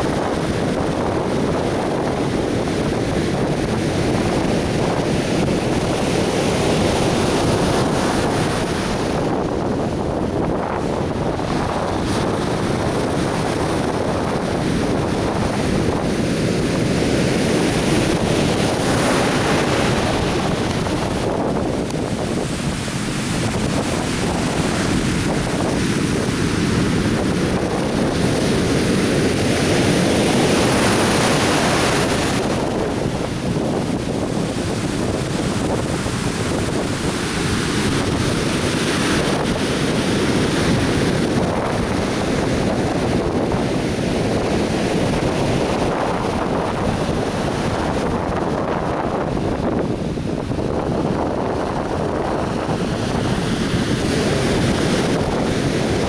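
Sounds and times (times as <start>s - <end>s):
surf breaking on beach: 0.0s - 56.0s
wind rumble on microphone: 0.0s - 56.0s.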